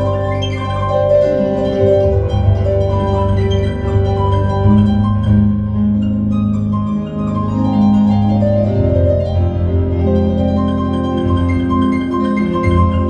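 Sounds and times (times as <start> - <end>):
solo piano improvisation: 0.0 - 13.0.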